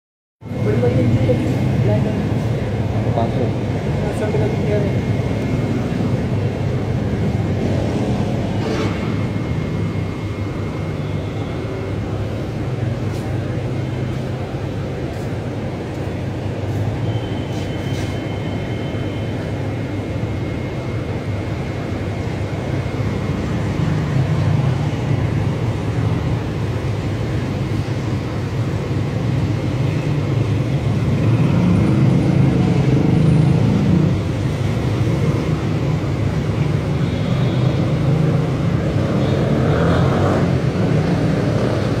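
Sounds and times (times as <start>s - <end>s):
low rumbling background noise: 0.4s - 42.0s.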